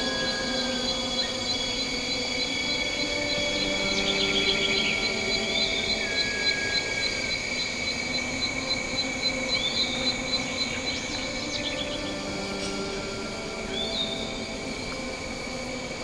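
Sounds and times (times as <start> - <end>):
high-pitched insect drone: 0.0 - 16.0
pulsing cricket chirp: 0.0 - 16.0.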